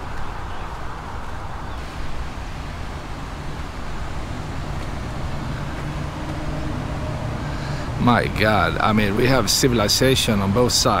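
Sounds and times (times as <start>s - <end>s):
flowing stream water: 0.0s - 11.0s
road traffic: 0.0s - 11.0s.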